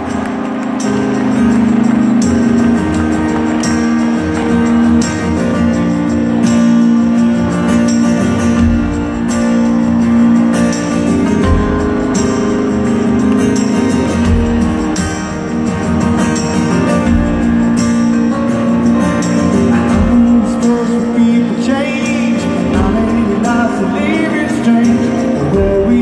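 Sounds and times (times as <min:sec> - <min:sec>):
live rock band through pa: 0:00.0 - 0:26.0.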